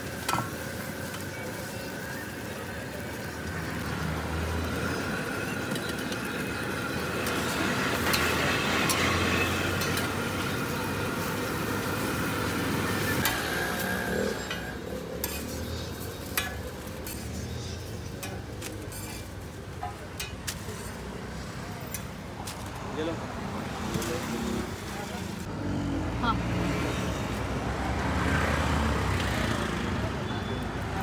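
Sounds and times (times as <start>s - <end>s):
breads cooking on iron griddle: 0.0s - 25.5s.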